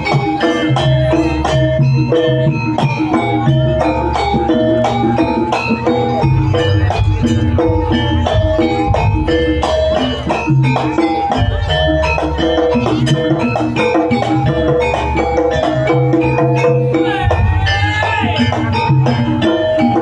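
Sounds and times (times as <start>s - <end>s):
gamelan metallophones ringing: 0.0s - 20.0s
steady drum beat: 0.0s - 20.0s.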